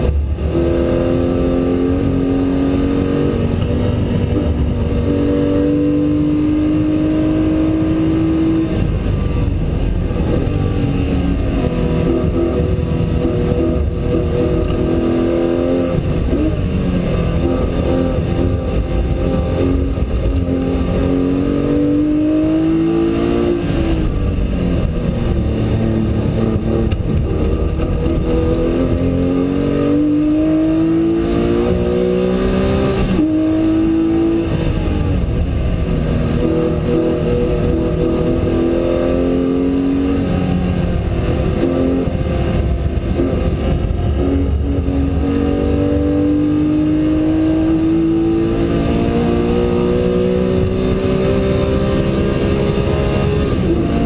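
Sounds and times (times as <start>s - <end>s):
race car engine accelerating: 0.0s - 54.0s
road and drivetrain rumble: 0.0s - 54.0s.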